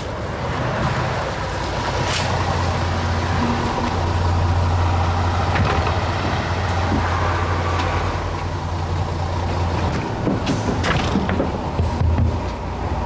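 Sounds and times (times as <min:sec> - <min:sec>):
bus engine idling: 0:00.0 - 0:13.0
street noise: 0:00.0 - 0:13.0.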